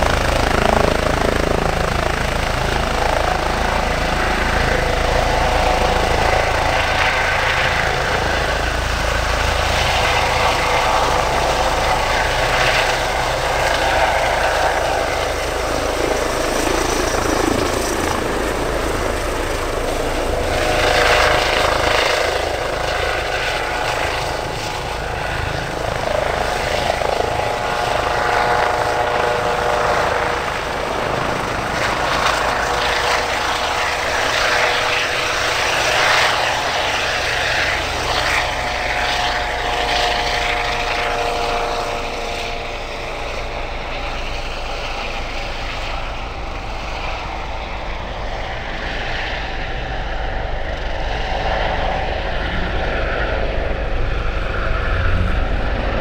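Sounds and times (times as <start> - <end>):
helicopter rotor beat: 0.0 - 56.0
helicopter turbine whine: 0.0 - 56.0.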